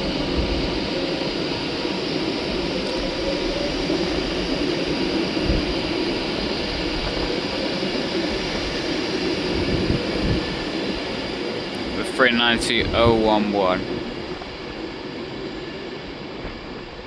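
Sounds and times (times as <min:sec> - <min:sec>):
electric train pulling away: 0:00.0 - 0:17.0.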